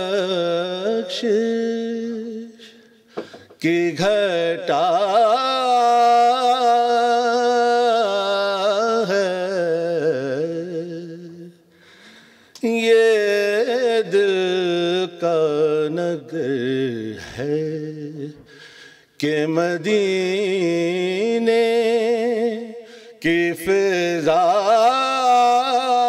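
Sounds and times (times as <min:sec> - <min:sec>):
man singing: 0:00.0 - 0:11.6, 0:12.6 - 0:18.6, 0:19.2 - 0:26.0.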